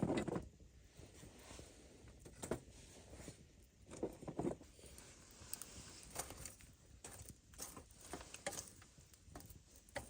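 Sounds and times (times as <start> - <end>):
faint steady hiss: 0.7 - 10.0.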